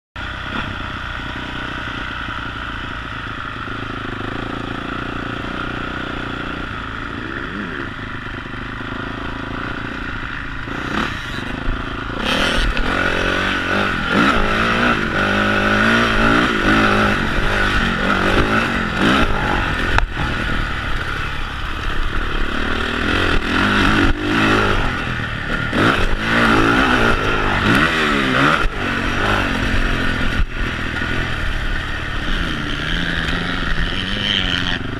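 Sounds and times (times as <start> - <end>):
motocross engine revving: 0.2 - 34.9.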